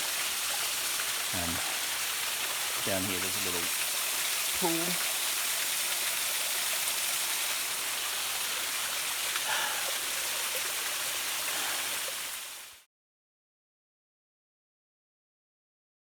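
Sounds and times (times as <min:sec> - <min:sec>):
waterfall splashing into pool: 0:00.0 - 0:12.9.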